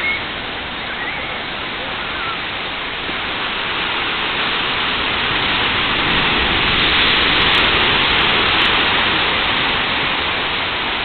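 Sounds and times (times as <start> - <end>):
waves breaking over rocks: 0.0 - 11.0.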